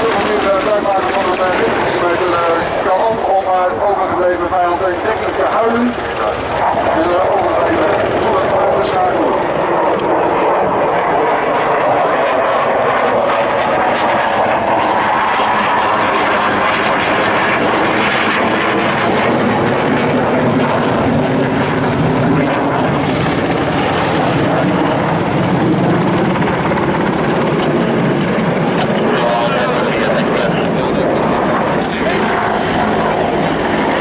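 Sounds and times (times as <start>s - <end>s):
helicopter rotor and turbine drone: 0.0s - 34.0s.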